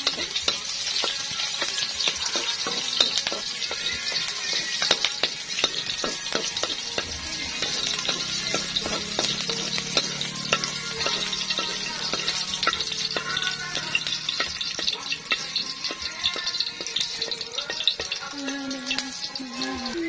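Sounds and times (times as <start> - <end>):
onion sizzling in hot oil: 0.0 - 20.0
spatula scraping a wok: 0.0 - 20.0.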